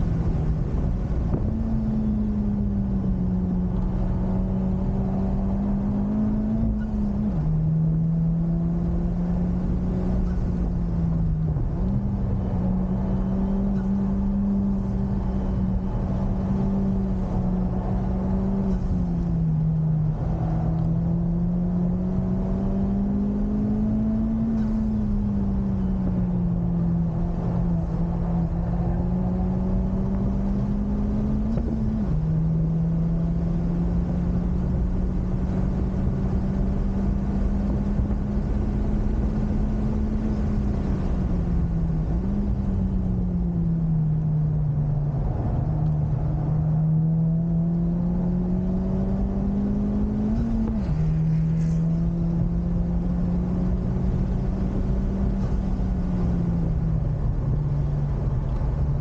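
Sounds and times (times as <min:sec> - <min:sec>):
car engine accelerating hard: 0:00.0 - 0:59.0
road noise: 0:00.0 - 0:59.0.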